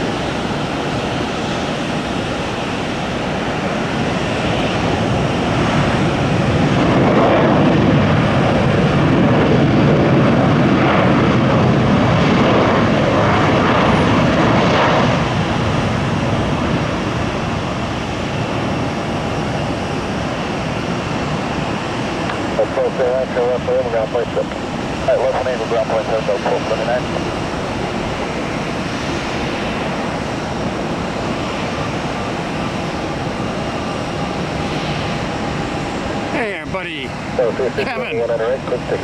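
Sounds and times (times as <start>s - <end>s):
jet airliner engines rushing: 0.0s - 39.0s.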